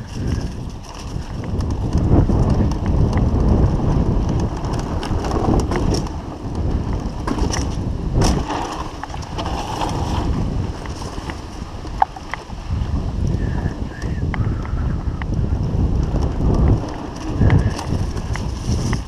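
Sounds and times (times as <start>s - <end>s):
bike chain and frame rattling: 0.0s - 19.0s
tyres rumbling on dirt trail: 0.0s - 19.0s
wind buffeting microphone: 0.0s - 19.0s.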